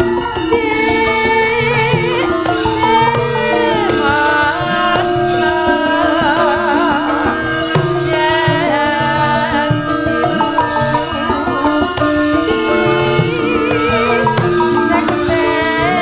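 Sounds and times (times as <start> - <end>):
gamelan ensemble: 0.0 - 16.0
hand drum: 0.0 - 16.0
woman singing with vibrato: 0.0 - 16.0.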